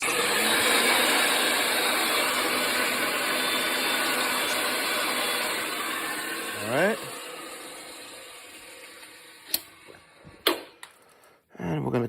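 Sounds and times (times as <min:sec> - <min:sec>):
pipe-threading machine cutting: 0:00.0 - 0:10.8.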